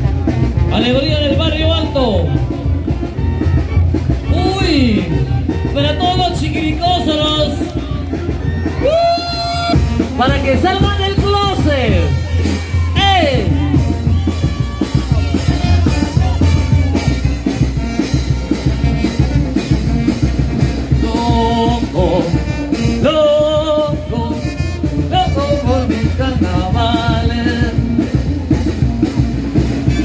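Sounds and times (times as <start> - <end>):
latin dance music with singing: 0.0 - 30.0.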